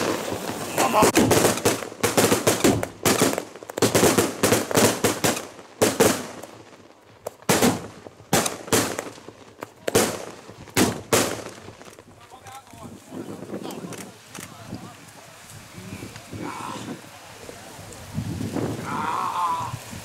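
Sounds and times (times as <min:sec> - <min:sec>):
firecrackers banging: 0:00.0 - 0:16.4.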